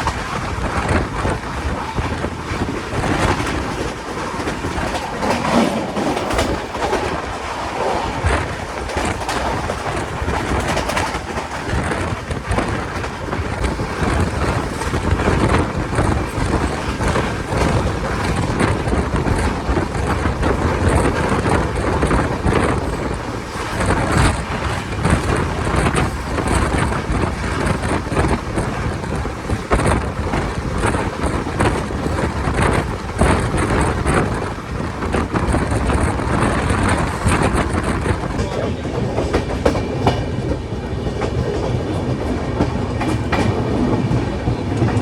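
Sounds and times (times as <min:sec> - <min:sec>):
train rumble: 0:00.0 - 0:45.0
wheels clattering over rails: 0:00.0 - 0:45.0
wind buffeting microphone: 0:00.0 - 0:45.0.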